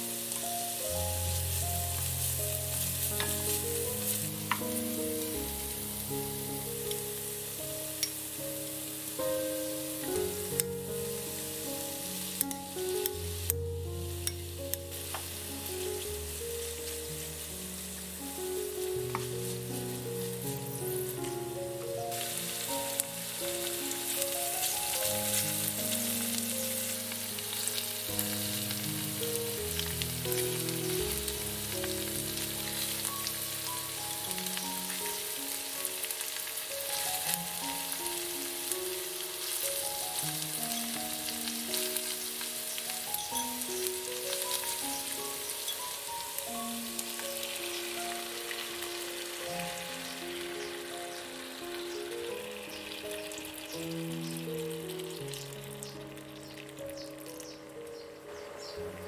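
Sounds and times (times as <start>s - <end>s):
slow background music: 0.0s - 59.0s
vegetables sizzling in a skillet: 0.0s - 59.0s.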